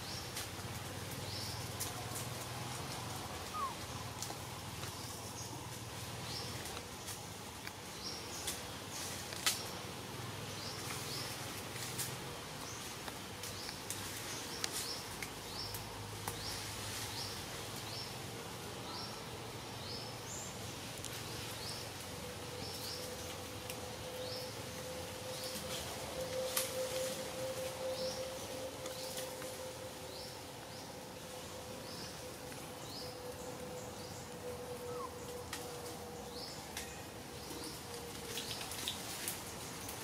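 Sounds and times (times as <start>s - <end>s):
steady humming tone: 0.0s - 40.0s.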